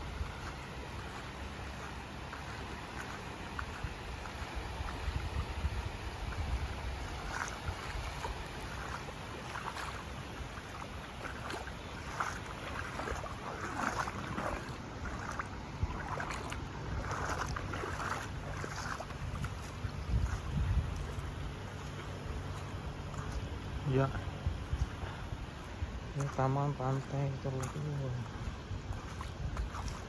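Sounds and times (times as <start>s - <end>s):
small waves lapping: 0.0s - 30.0s
wind on microphone: 3.6s - 30.0s.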